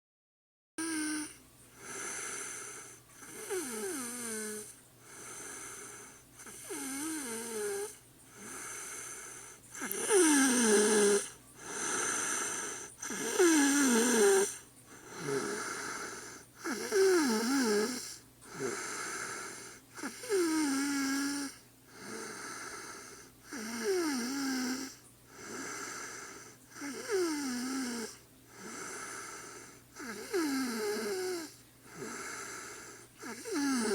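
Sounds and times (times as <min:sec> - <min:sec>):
woman snoring: 0:00.8 - 0:33.9.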